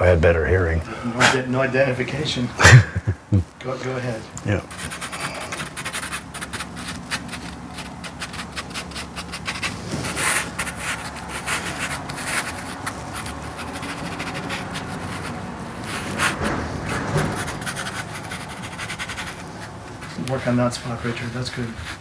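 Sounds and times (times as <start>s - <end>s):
pastel scratching on paper: 4.0s - 22.0s.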